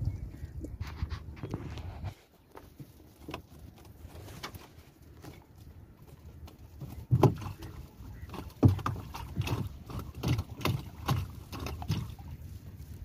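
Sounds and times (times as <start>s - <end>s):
water splashing at a boat: 0.0s - 13.0s.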